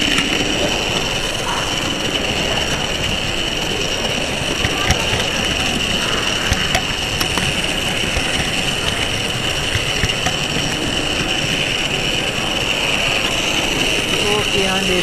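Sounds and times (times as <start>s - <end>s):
model train motor whine: 0.0s - 15.0s
wheels clicking over rail joints: 0.0s - 15.0s.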